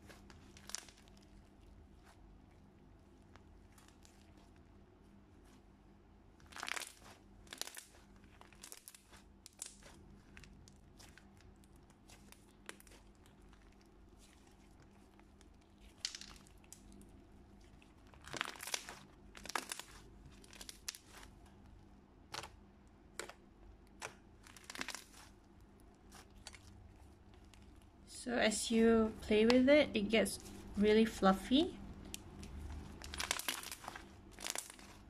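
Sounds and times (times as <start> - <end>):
slime crackling and crunching: 0.0 - 5.6, 6.3 - 35.0.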